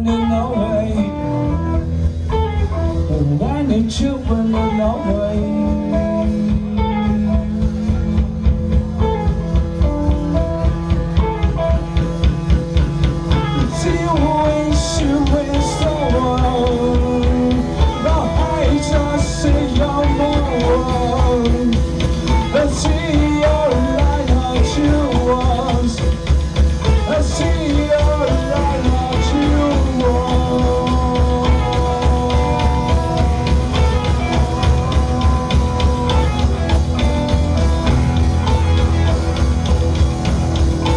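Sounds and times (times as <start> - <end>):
drum kit beat: 0.0 - 40.9
guitar lines: 0.0 - 40.9
heavy bass: 0.0 - 40.9.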